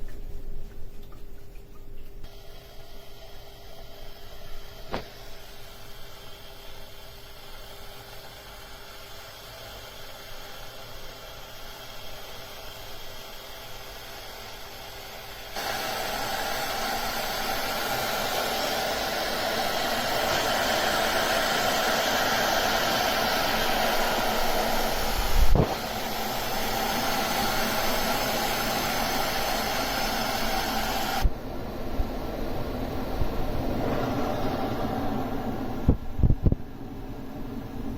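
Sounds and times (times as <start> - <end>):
electric kettle hissing: 2.2 - 37.9.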